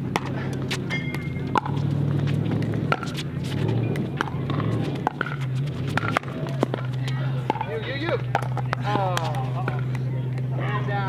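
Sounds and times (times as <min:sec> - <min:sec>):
paddles striking pickleball: 0:00.0 - 0:10.6
low hum: 0:00.0 - 0:11.0.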